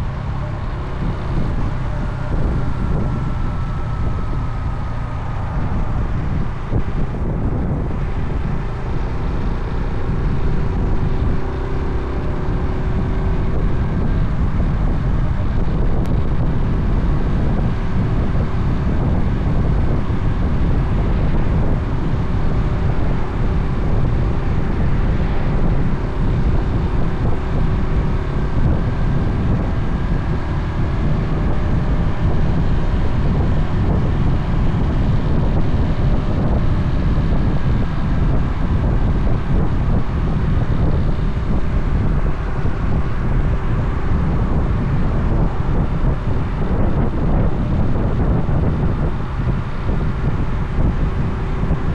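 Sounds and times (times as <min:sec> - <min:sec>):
motorcycle engine cruising: 0:00.0 - 0:51.9
wind buffeting microphone: 0:00.0 - 0:51.9.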